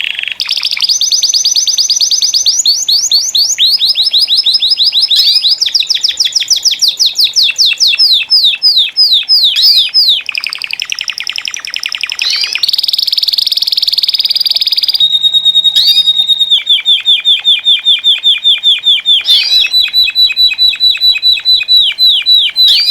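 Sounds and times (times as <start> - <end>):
canaries singing trills: 0.0 - 22.9
canary steady whistle: 0.0 - 22.9.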